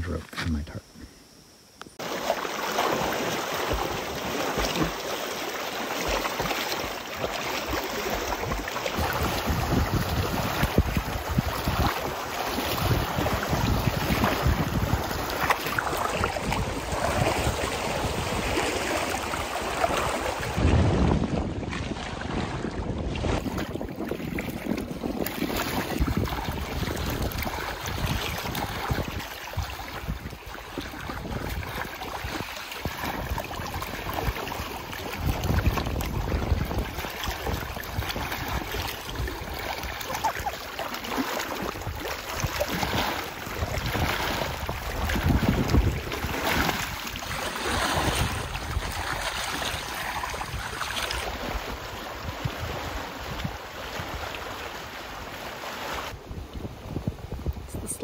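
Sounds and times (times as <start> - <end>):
lake water lapping: 2.0 - 58.0
wind gusting across microphone: 7.8 - 40.2, 41.6 - 55.3, 56.0 - 58.0.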